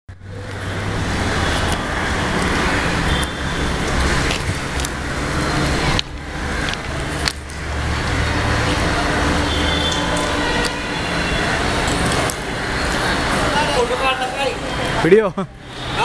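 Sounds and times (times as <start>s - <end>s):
heavy engine and traffic roar: 0.1s - 16.0s.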